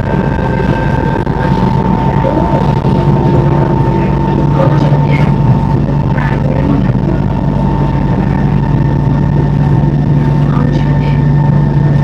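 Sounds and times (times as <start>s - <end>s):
high whine: 0.0s - 12.0s
train rumbling inside carriage: 0.0s - 12.0s.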